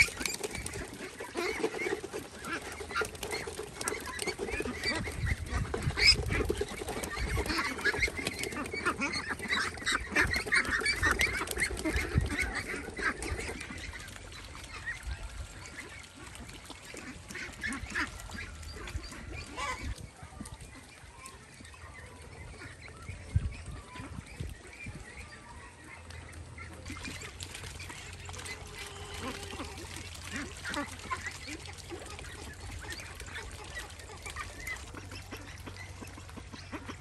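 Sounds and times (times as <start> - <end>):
waterfowl calling: 0.0 - 37.0.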